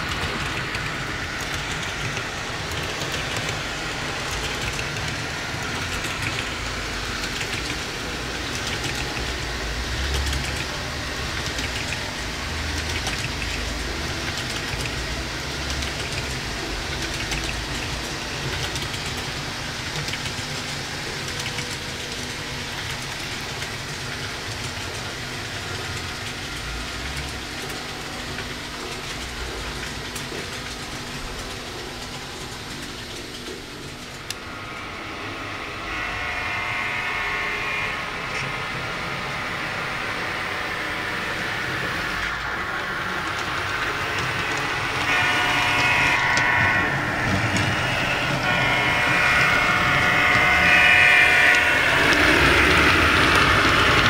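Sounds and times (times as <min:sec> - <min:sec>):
model train whirring: 0:00.0 - 0:54.0.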